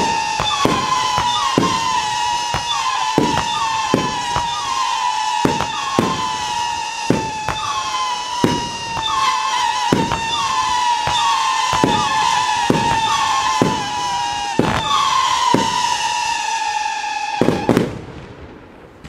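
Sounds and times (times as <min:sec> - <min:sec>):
fireworks whistling screams: 0:00.0 - 0:18.0
firework salute bangs: 0:00.0 - 0:18.2.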